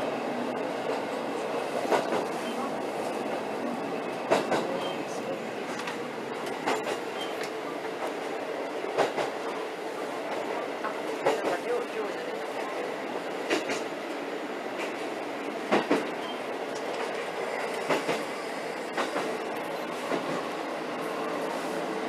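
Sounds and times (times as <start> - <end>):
railcar running noise: 0.0 - 22.0.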